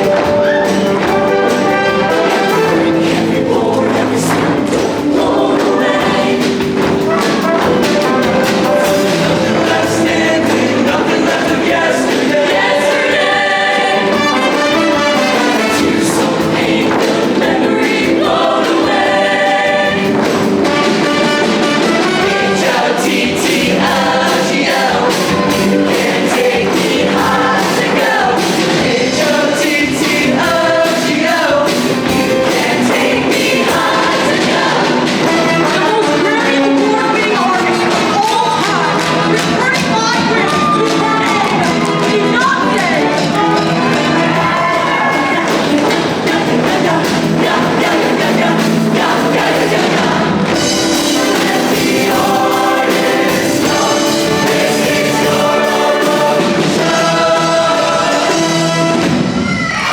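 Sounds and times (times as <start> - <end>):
choir singing pop arrangement: 0.0 - 59.9
instrumental accompaniment with beat: 0.0 - 59.9.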